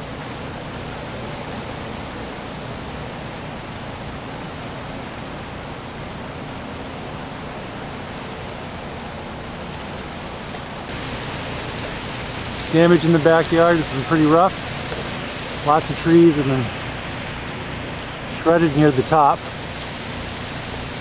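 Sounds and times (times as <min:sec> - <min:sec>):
meltwater and ice dripping: 0:00.0 - 0:21.0.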